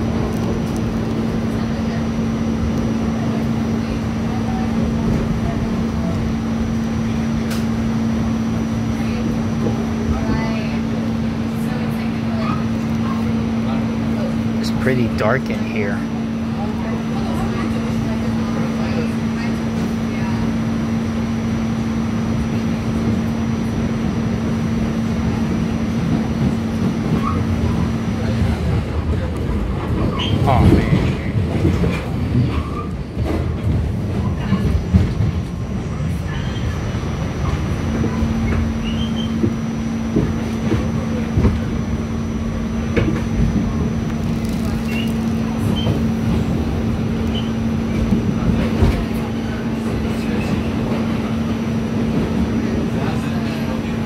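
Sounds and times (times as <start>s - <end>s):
subway wheels rumbling: 0.0s - 54.0s.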